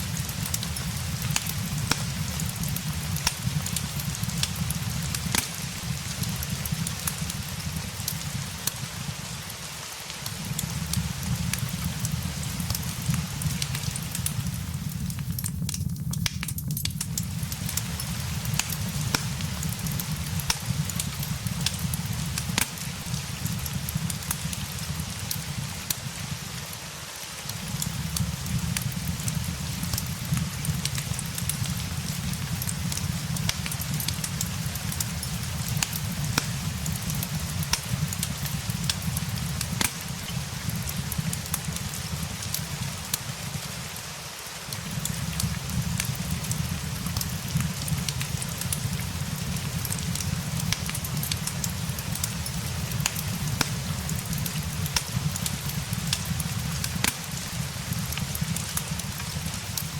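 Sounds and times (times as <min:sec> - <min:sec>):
crackling fire with pops: 0:00.0 - 0:59.9
steady rain hiss: 0:00.0 - 0:59.9.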